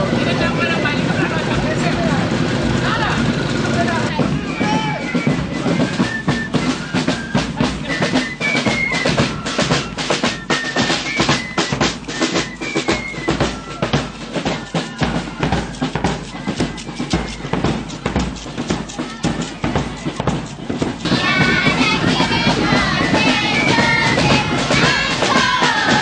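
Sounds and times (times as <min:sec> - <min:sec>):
drums beaten in fast rhythm: 0:00.0 - 0:26.0.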